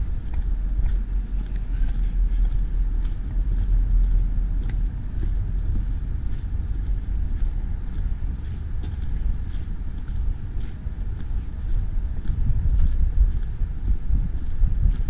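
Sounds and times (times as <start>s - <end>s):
footsteps on gravel: 0.0s - 15.0s
wind buffeting microphone: 0.0s - 15.0s.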